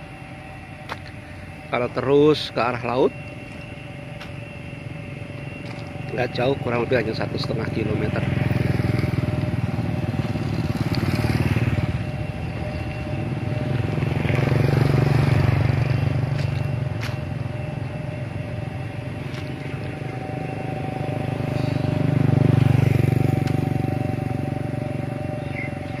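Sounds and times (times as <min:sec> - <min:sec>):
small motorcycles passing: 0:04.7 - 0:26.0.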